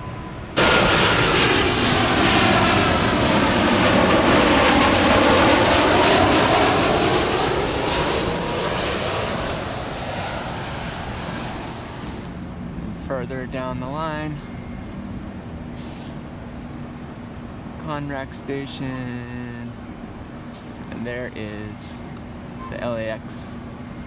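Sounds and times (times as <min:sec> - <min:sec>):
jet airliner roaring overhead: 0:00.0 - 0:24.0.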